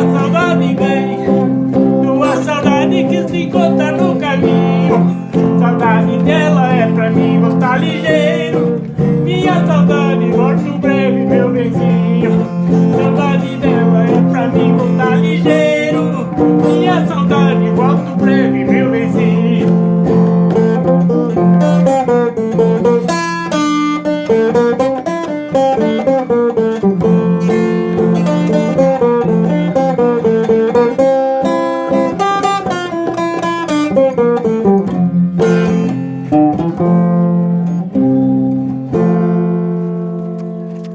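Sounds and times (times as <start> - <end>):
plucked guitar melody: 0.0 - 40.9.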